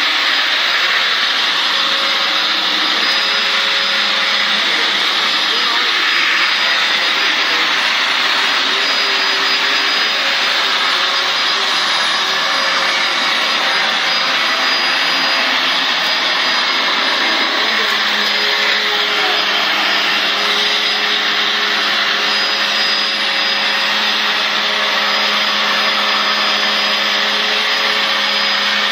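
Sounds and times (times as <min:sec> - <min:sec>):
vacuum cleaner running: 0:00.0 - 0:28.9.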